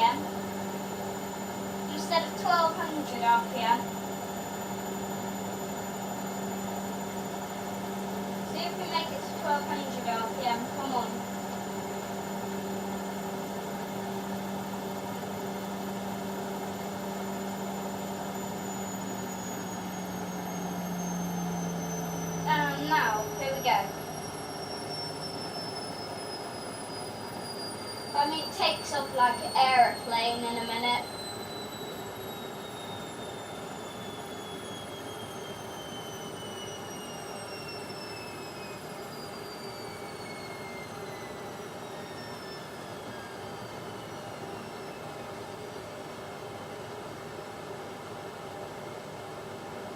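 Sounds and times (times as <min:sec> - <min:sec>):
washing machine spin cycle: 0:00.0 - 0:49.9.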